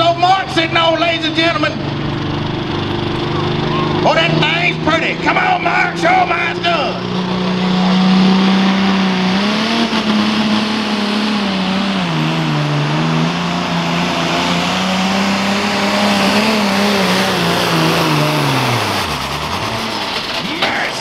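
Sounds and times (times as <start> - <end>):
tractor diesel engine at full power: 0.0 - 21.0.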